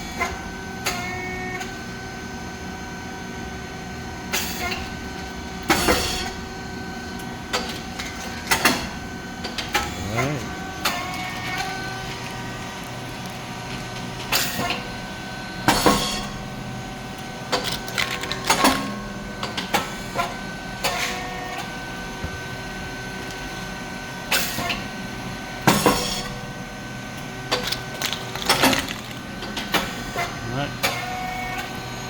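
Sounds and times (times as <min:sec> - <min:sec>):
hydraulic pump motor humming: 0:00.7 - 0:32.0.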